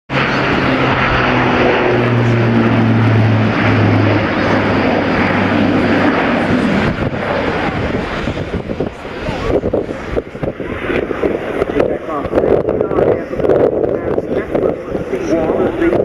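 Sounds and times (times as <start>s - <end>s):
turboprop engines droning: 0.1s - 16.0s.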